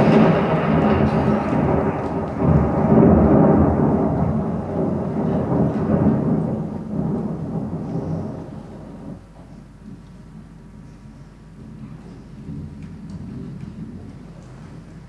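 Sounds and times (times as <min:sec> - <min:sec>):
low rumble with held tones: 0:00.0 - 0:15.0.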